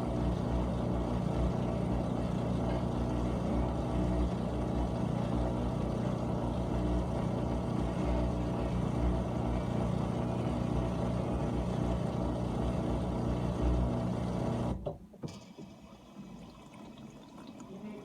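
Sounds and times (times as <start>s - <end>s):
dishwasher pump motor humming: 0.0s - 18.0s.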